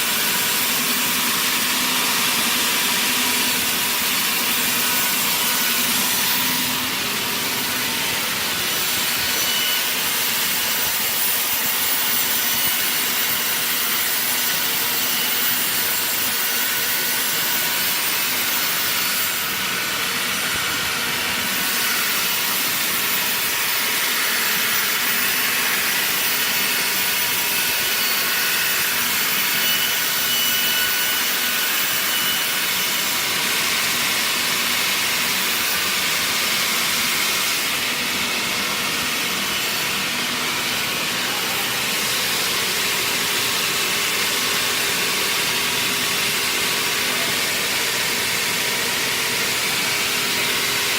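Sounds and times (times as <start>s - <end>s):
circular saw cutting wood: 0.0s - 50.9s.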